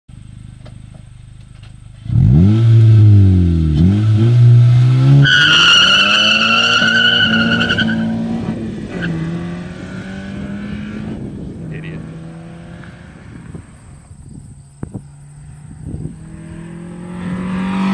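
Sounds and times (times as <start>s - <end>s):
car engine revving: 0.2s - 14.3s, 14.9s - 17.9s.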